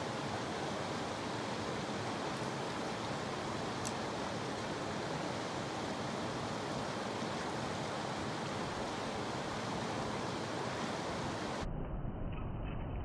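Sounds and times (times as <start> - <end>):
creek water flowing over rocks: 0.0 - 11.6.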